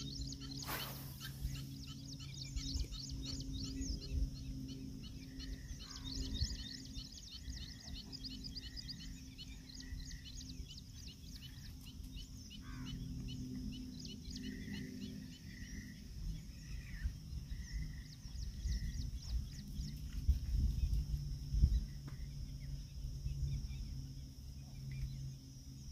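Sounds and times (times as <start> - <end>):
small birds chirping: 0.0 - 25.9
wind rumbling on microphone: 0.0 - 25.9.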